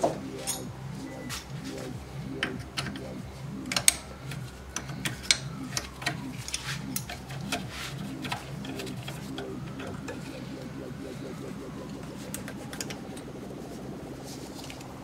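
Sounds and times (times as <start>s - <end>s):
background music with beat: 0.0s - 15.0s.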